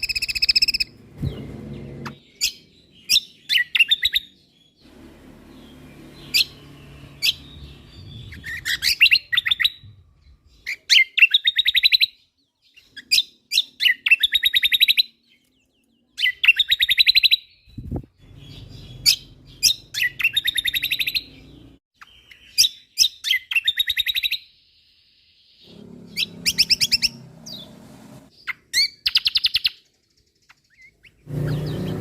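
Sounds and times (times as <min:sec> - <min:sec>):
songbird trilling and chirping: 0:00.0 - 0:04.8, 0:05.5 - 0:27.7, 0:28.3 - 0:32.0.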